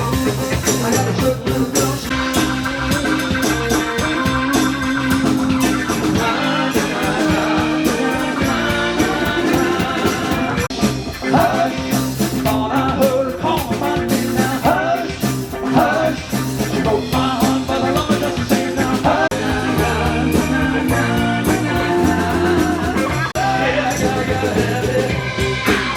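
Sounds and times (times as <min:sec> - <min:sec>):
live band with horn section: 0:00.0 - 0:25.9.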